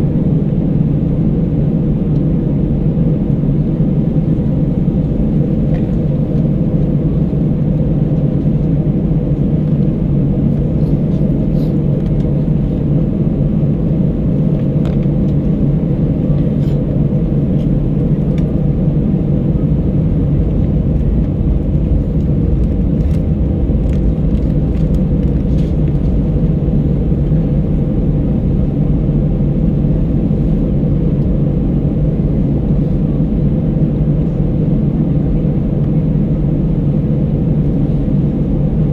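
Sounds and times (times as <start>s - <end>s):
airplane cabin roar: 0.0s - 38.9s.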